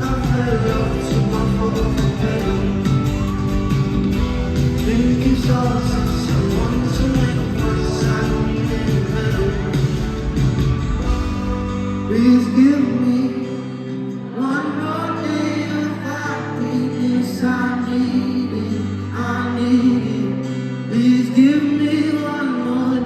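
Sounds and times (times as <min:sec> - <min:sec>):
keyboard and band accompaniment: 0:00.0 - 0:23.0
man singing pop ballad: 0:00.0 - 0:23.0.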